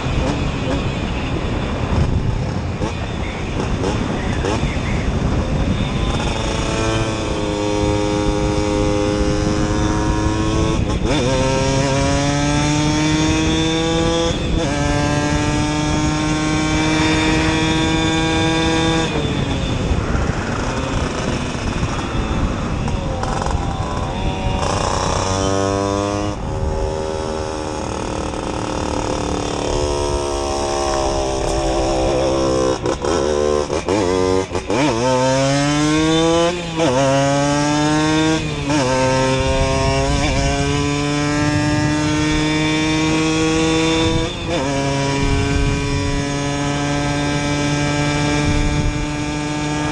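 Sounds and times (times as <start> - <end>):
moped two-stroke engine revving: 2.4 - 49.9.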